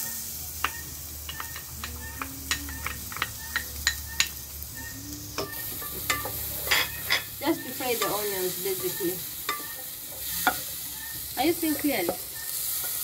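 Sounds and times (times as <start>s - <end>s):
oil sizzling in a saucepan: 0.0s - 13.0s.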